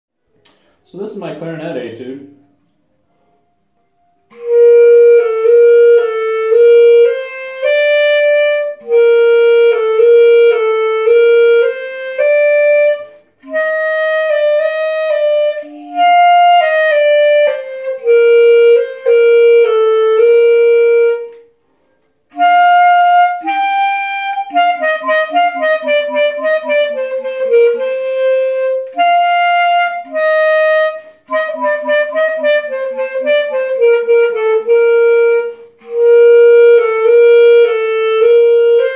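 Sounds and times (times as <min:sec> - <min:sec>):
solo clarinet playing: 0:04.2 - 0:38.9.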